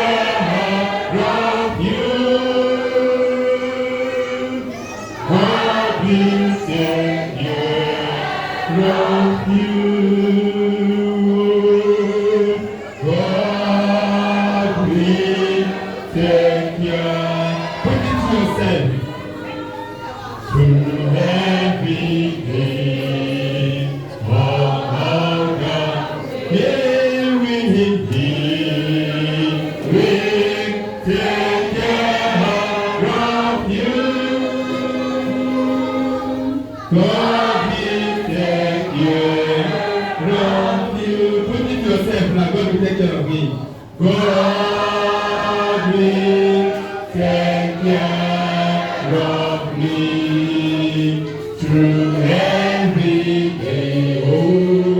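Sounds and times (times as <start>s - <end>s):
group singing a hymn: 0.0s - 54.9s.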